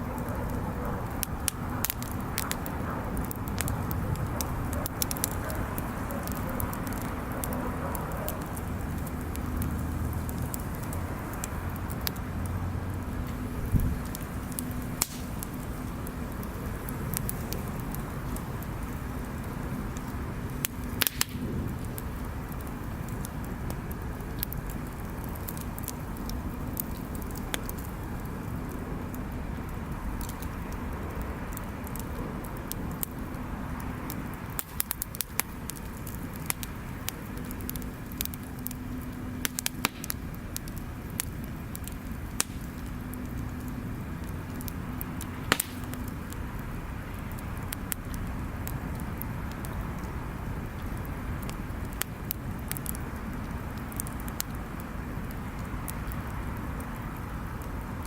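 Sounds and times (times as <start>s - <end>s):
bonfire crackling and popping: 0.0s - 58.0s
steady low rumble: 0.0s - 58.0s.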